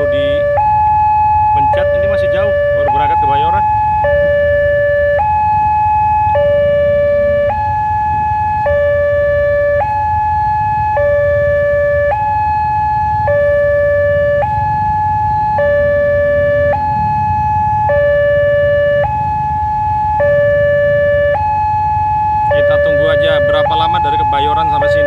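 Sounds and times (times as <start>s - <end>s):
level crossing two-tone alarm: 0.0s - 25.0s
low rumble of traffic: 0.0s - 25.0s.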